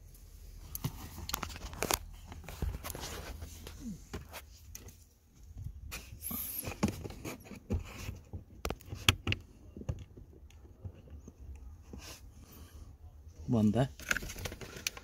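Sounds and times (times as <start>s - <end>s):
hands handling plastic dashboard: 0.6s - 12.3s, 14.0s - 15.0s.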